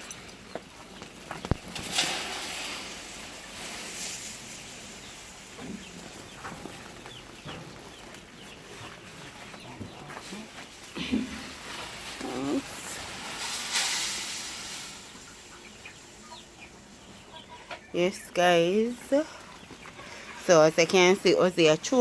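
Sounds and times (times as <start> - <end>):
chicks peeping: 0.0 - 1.9, 2.6 - 22.0.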